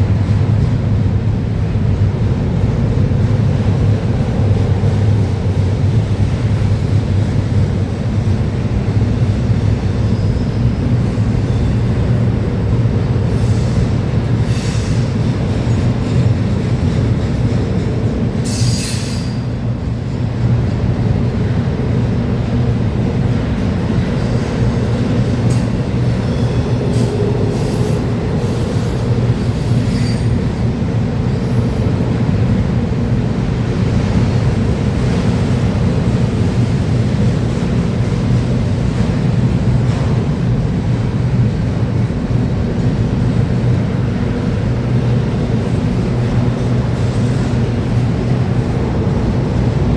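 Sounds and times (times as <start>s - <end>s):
freight train rumbling: 0.0s - 49.9s
train wheel squeals: 1.1s - 19.9s, 23.9s - 49.9s.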